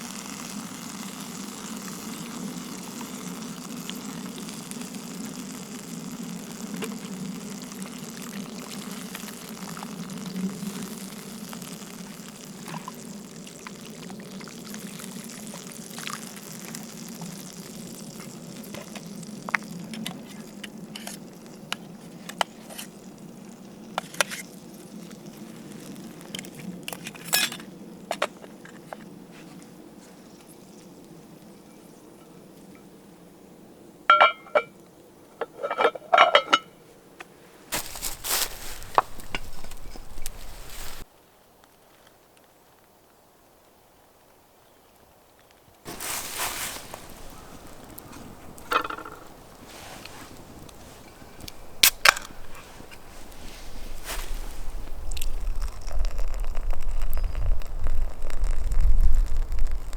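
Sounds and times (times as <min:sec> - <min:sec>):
food bubbling and sizzling: 0:00.0 - 0:36.7, 0:37.6 - 0:41.1, 0:45.2 - 0:59.9.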